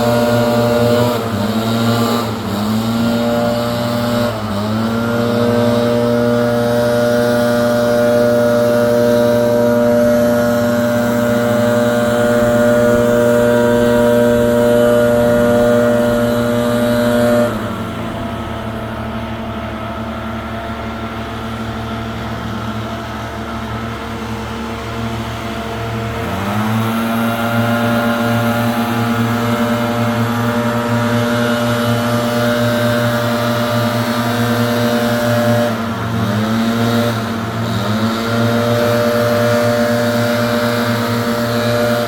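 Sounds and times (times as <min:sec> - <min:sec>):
leaf blower engine revving: 0:00.0 - 0:42.0.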